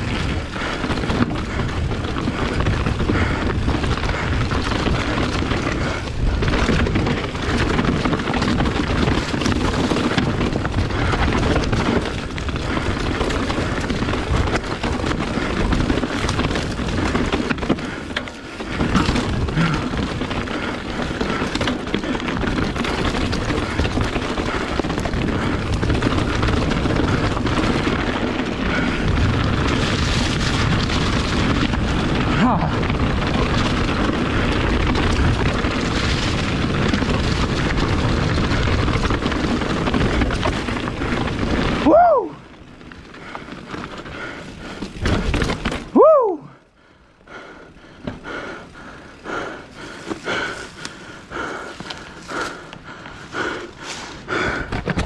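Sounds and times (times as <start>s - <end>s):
bike knocks and rattles: 0.0s - 46.6s, 47.8s - 55.0s
tyres rolling over dirt and rocks: 0.0s - 55.0s
wind rumbling on microphone: 0.0s - 55.0s.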